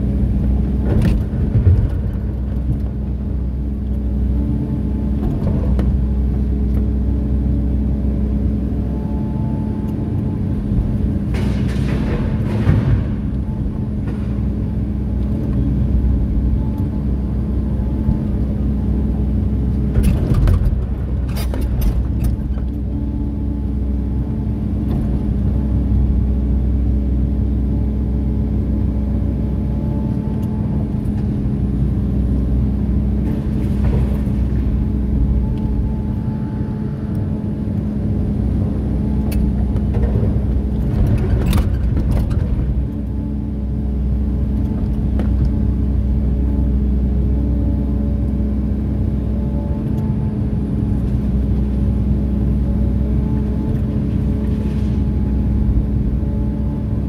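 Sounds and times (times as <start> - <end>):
excavator engine and hydraulics: 0.0 - 57.0.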